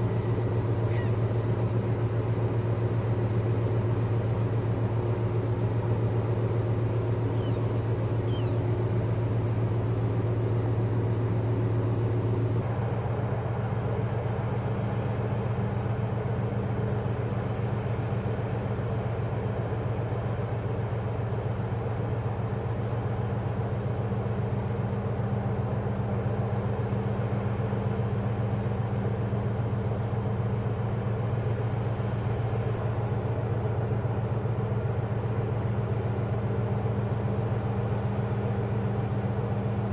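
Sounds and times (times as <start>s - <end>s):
ship engines droning: 0.0s - 39.9s.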